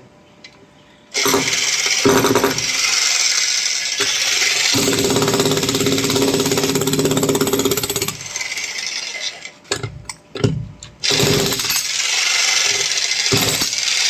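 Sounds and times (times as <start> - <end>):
demolition hammer chiselling concrete: 1.2 - 8.8, 9.7 - 14.0.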